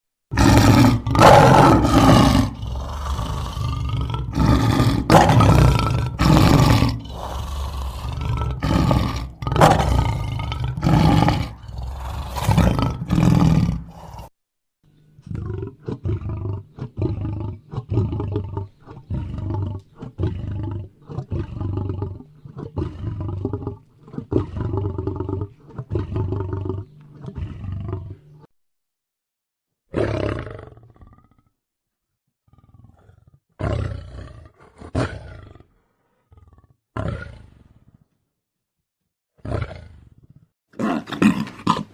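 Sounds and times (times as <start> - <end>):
lion roaring: 0.3 - 14.3, 15.2 - 28.5, 32.5 - 38.1, 39.4 - 40.2, 40.8 - 41.9.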